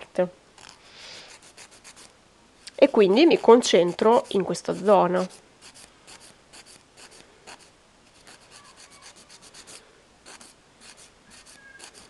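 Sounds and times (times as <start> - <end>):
nail file rasping: 0.6 - 2.1, 2.7 - 12.0.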